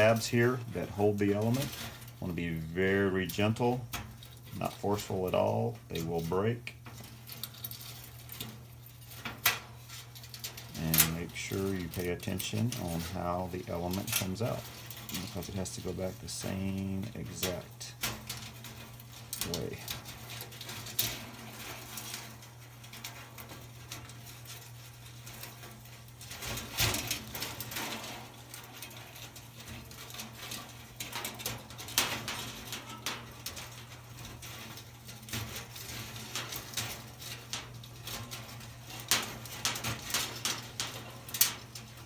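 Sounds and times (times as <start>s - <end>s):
steady low hum: 0.0s - 42.0s
wire coil clicks and scrapes: 0.0s - 42.0s.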